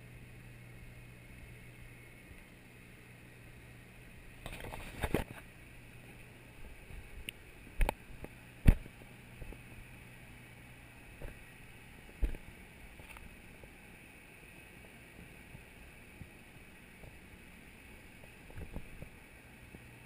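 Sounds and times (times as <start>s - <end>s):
open air hiss: 0.0s - 20.0s.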